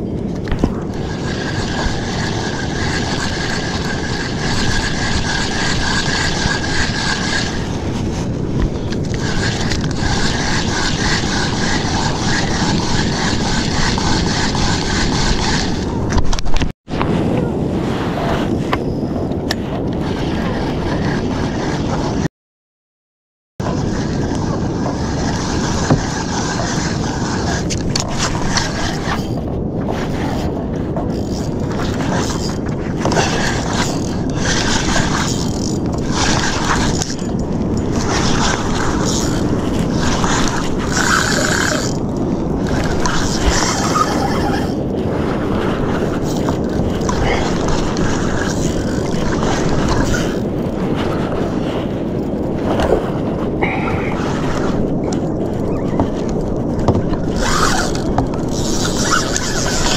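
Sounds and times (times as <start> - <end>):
sea water: 0.0 - 22.2, 23.6 - 59.9
wind rushing over microphone: 0.0 - 22.3, 23.6 - 59.9.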